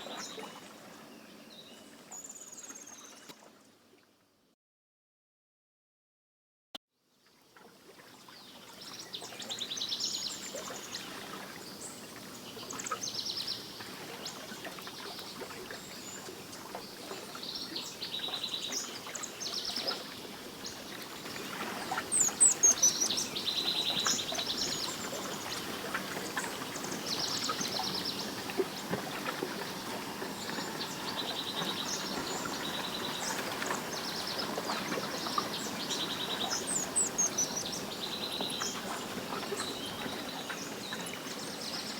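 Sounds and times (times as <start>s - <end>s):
songbirds trilling and chirping: 8.2s - 41.9s.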